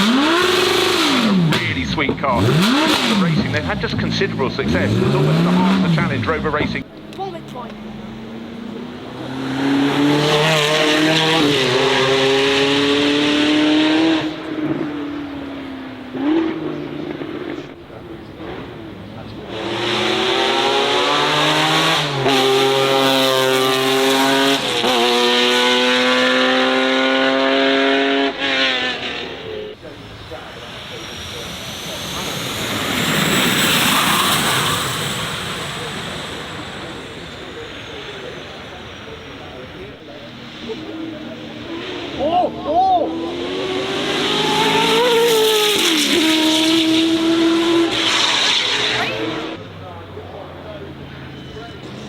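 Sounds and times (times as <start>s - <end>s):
race car engine running hard: 0.0s - 52.0s.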